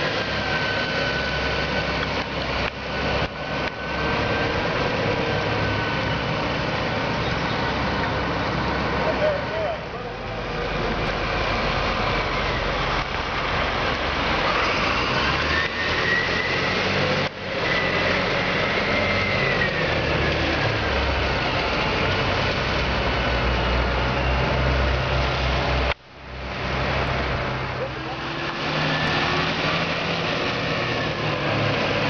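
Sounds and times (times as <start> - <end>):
truck diesel engine passing: 0.0 - 32.0.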